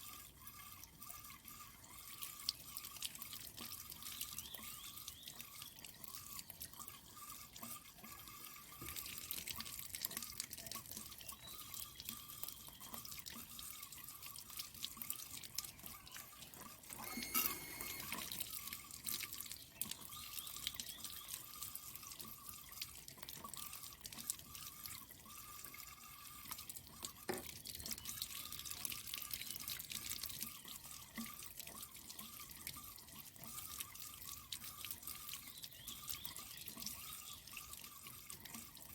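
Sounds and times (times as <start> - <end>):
water dripping and splashing: 0.0 - 17.1, 17.9 - 38.9.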